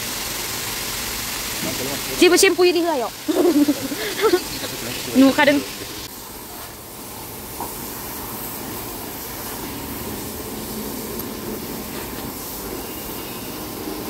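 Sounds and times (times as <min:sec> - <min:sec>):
car wash equipment hissing: 0:00.0 - 0:14.0.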